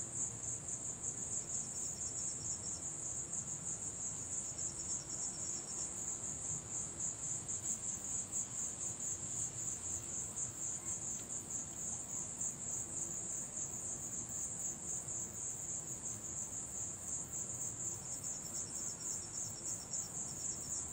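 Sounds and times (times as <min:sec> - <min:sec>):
faint insect trill: 0:00.0 - 0:20.9
insects chirping: 0:00.0 - 0:20.9.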